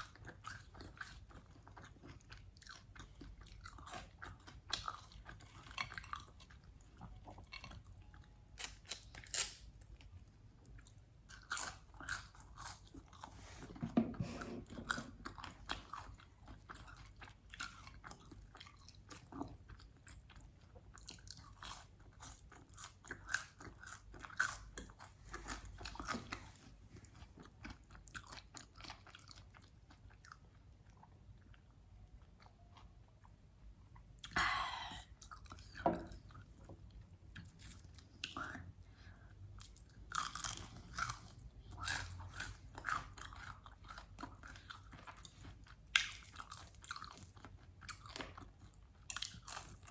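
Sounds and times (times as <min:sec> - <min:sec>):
crunchy chewing of fried chicken: 0:00.0 - 0:34.4, 0:35.1 - 0:49.9.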